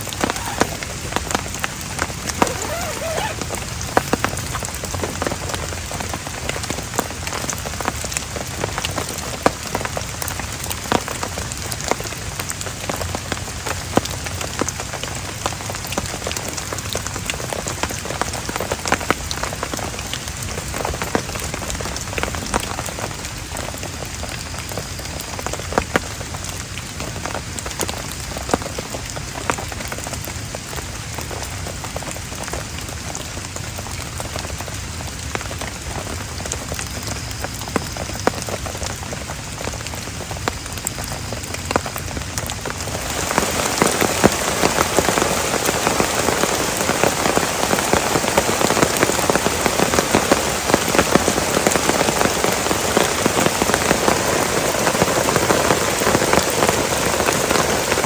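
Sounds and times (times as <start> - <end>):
heavy rain falling: 0.0 - 58.0
raindrops striking close by: 0.0 - 58.0.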